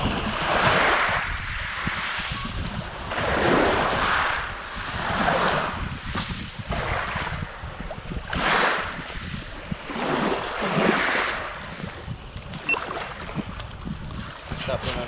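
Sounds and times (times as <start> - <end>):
sea water sloshing and splashing: 0.0 - 2.2, 2.8 - 15.0
wind buffeting microphone: 0.0 - 15.0.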